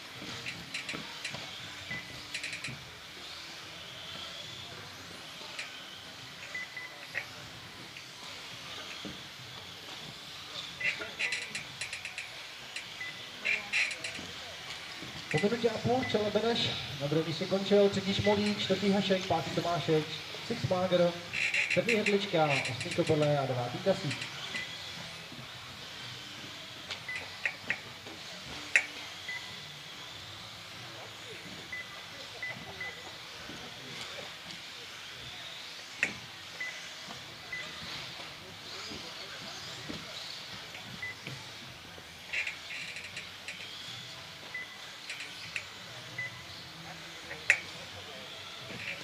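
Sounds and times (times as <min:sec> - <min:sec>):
electric motor whine: 0:00.0 - 0:49.0
radio-controlled cars hissing: 0:00.0 - 0:49.0.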